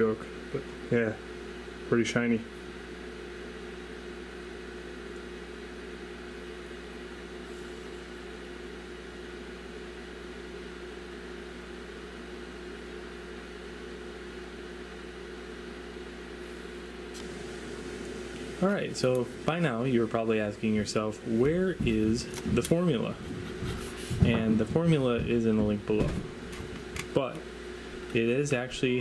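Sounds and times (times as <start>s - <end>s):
low electrical hum with hiss: 0.0s - 29.0s.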